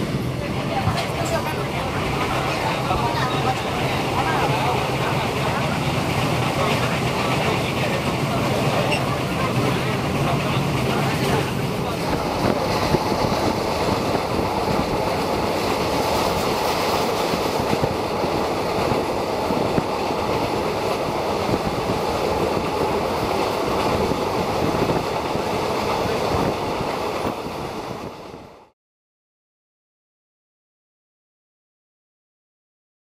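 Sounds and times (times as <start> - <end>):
train rumbling on track: 0.0 - 28.8.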